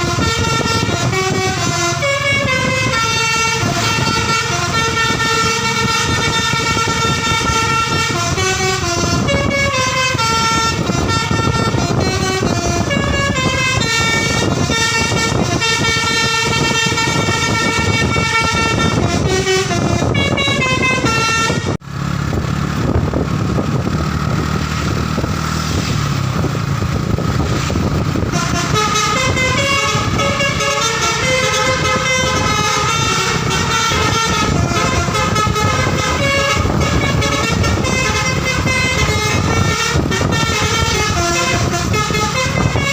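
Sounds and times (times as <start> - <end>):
multi-note air horn tune: 0.0 - 21.8, 27.7 - 42.9.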